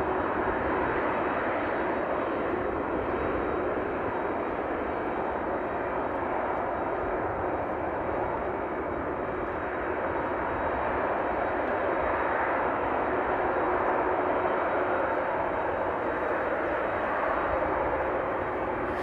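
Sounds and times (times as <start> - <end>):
distant jet engines rushing: 0.0 - 19.0.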